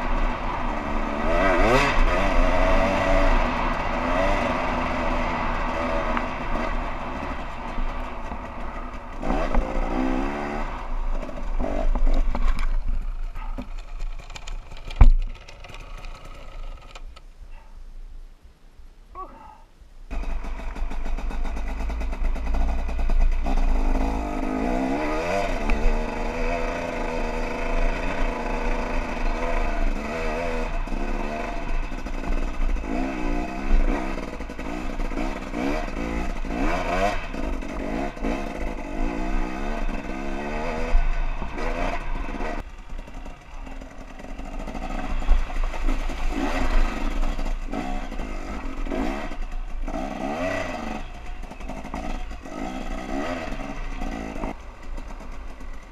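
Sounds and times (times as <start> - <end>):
dirt bike engine revving: 0.0 - 13.5, 20.1 - 55.9.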